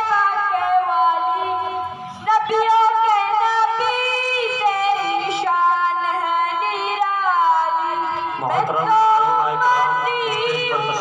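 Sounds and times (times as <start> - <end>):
boy chanting through loudspeakers: 0.0 - 11.0.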